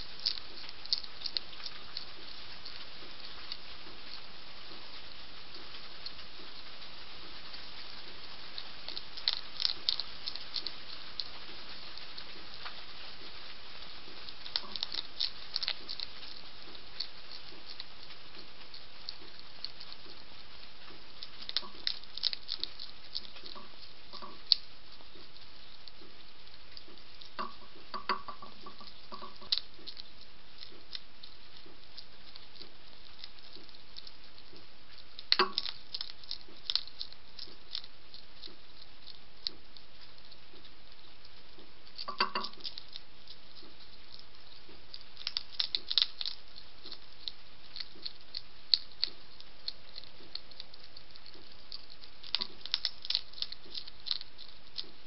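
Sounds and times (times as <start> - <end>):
hedgehog crunching kibble: 0.0 - 55.0
steady hiss: 0.0 - 55.0.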